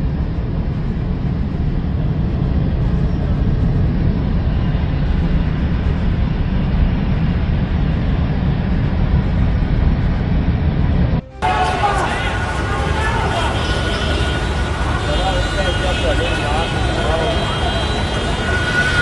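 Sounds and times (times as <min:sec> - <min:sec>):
street noise rumble with hiss: 0:00.0 - 0:19.0.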